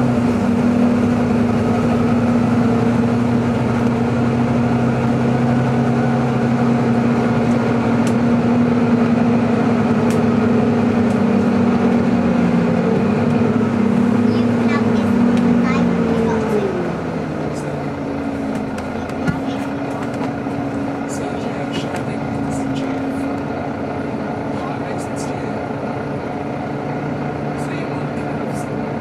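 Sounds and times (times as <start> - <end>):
bus engine whining: 0.0 - 29.0.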